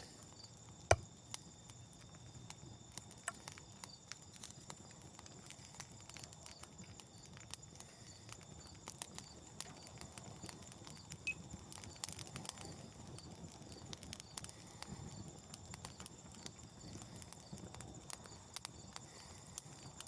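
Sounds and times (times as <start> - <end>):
campfire wood crackling: 0.0 - 20.0.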